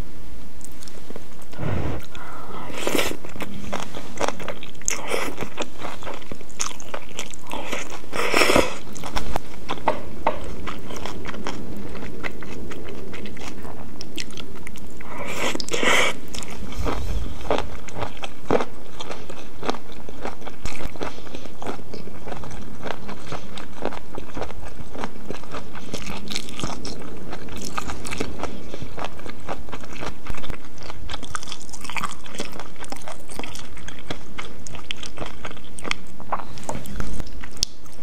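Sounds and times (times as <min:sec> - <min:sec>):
chewing with wet clicks: 0:03.3 - 0:16.6, 0:17.6 - 0:38.0.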